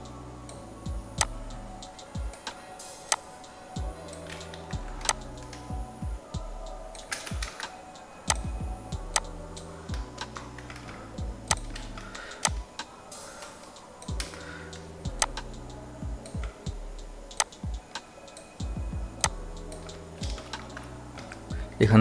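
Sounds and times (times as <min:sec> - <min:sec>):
low steady hum: 0:00.0 - 0:02.8, 0:03.5 - 0:07.5, 0:08.3 - 0:12.8, 0:14.0 - 0:17.8, 0:18.6 - 0:22.0.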